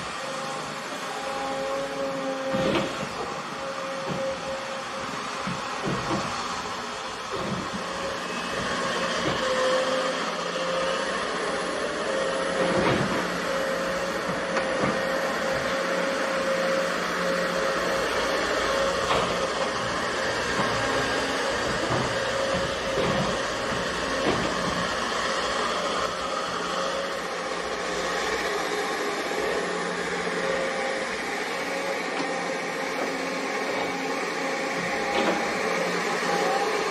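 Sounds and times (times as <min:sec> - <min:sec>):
excavator engine drone: 0:00.0 - 0:36.9.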